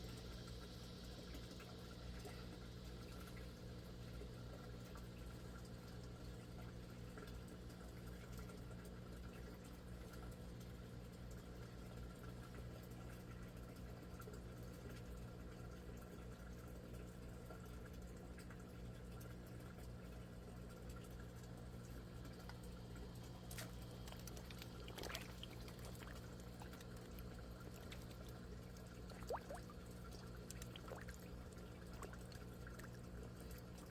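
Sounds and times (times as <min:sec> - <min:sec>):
low steady hum: 0:00.0 - 0:33.9
water pouring and trickling: 0:04.1 - 0:33.9.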